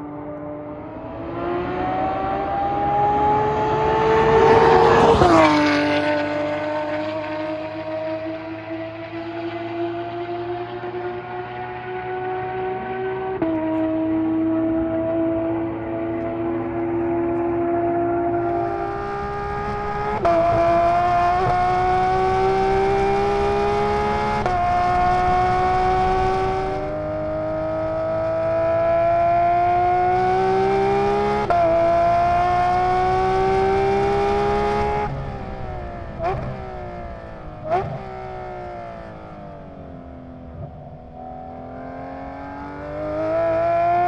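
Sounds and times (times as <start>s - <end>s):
sports car engine accelerating: 0.0s - 44.0s.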